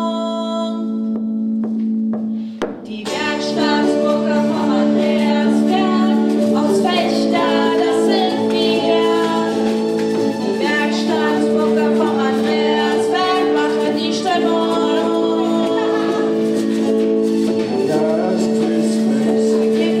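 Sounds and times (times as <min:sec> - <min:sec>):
light percussion: 0:01.2 - 0:20.0
person singing: 0:02.8 - 0:20.0
band playing pop song: 0:03.1 - 0:20.0.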